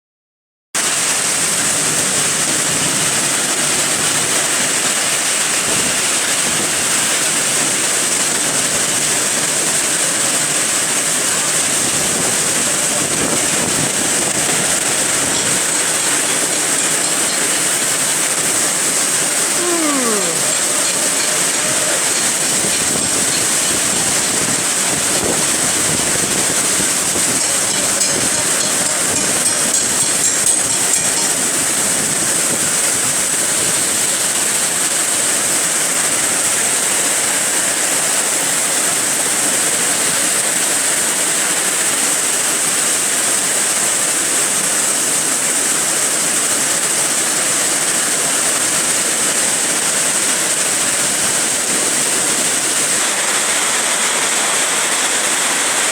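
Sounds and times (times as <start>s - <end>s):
heavy rain and wind rushing: 0.8s - 55.9s.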